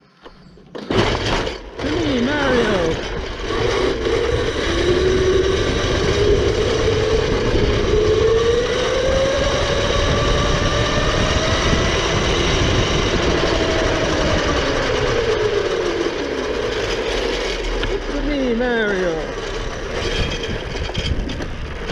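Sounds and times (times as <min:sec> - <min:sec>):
electric quad bike motor whining: 0:00.1 - 0:21.9
low rumble: 0:01.4 - 0:21.9.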